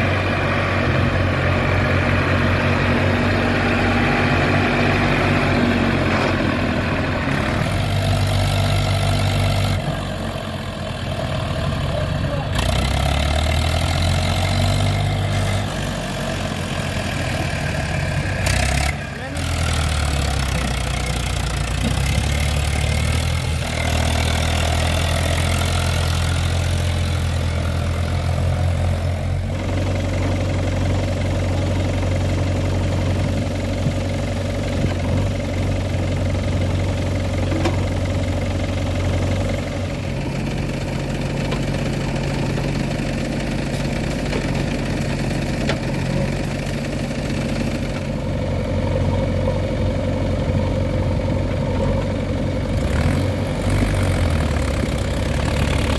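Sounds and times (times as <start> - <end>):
backhoe loading earth: 0.0 - 55.9
diesel engines idling: 0.0 - 55.9.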